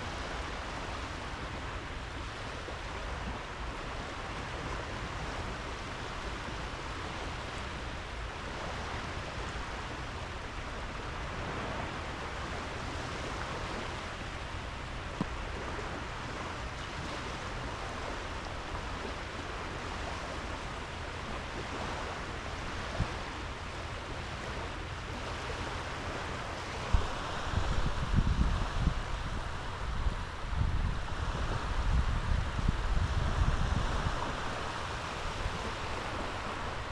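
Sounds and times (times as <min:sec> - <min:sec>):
sea waves on sandy beach: 0:00.0 - 0:36.9.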